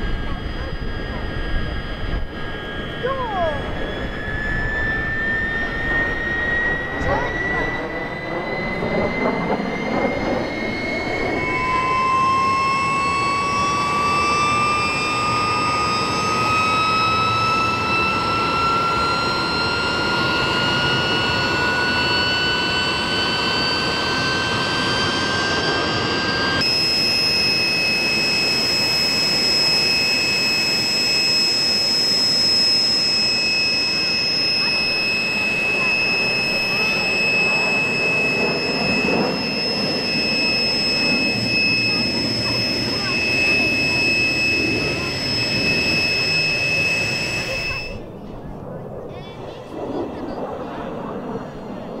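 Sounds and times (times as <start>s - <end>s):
high jet whine: 0.0s - 52.0s
jet engines rushing: 0.0s - 52.0s.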